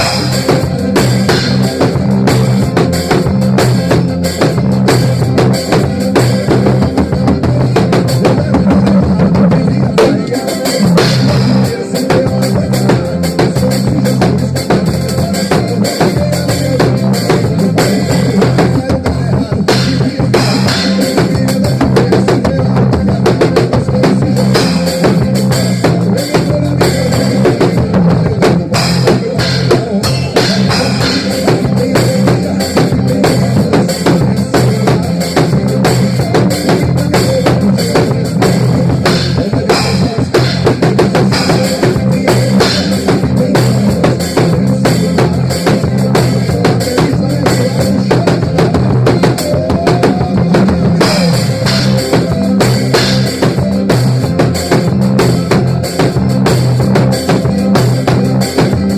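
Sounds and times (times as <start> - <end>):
drum kit playing: 0.0 - 58.9
recorded song with bass line: 0.0 - 58.9.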